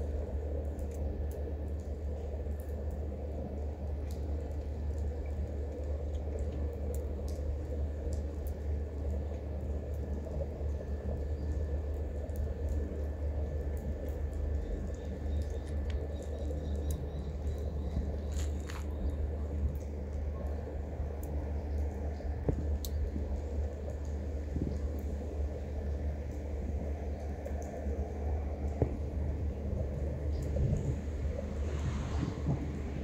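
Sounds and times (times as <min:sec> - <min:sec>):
outdoor background rumble: 0:00.0 - 0:33.0.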